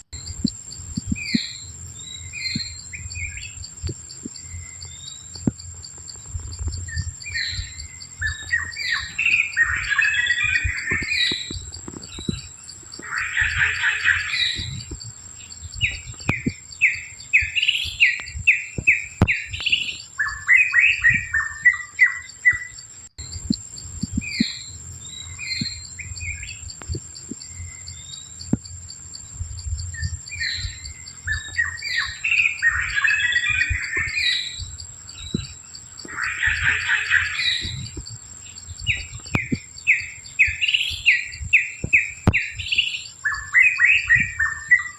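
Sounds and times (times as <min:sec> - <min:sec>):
birds calling: 0:00.0 - 0:44.9.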